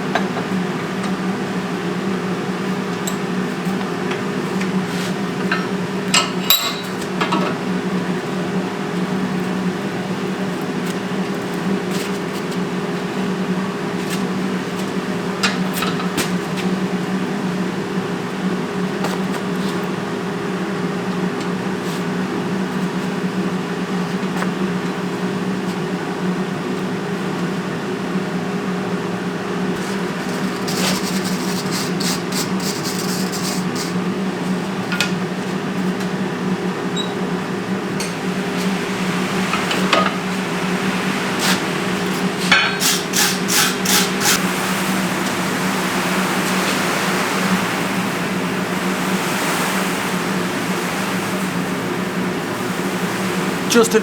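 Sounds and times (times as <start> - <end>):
forge blower humming: 0.0 - 54.0.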